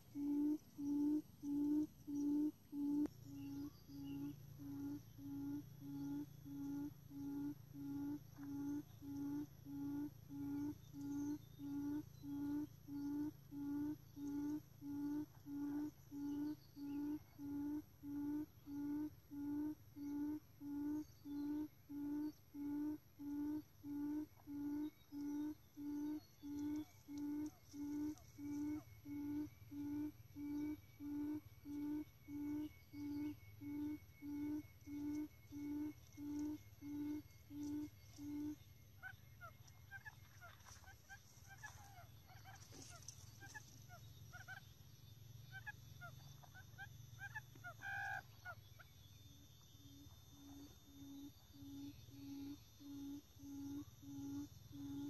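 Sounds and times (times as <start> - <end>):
quail call low hoots: 0.0 - 44.6, 45.5 - 48.6, 50.4 - 55.0.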